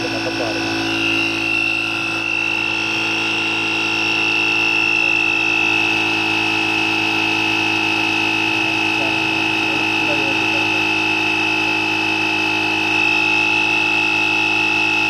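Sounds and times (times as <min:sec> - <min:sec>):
tyre inflator compressor running: 0:00.0 - 0:15.0.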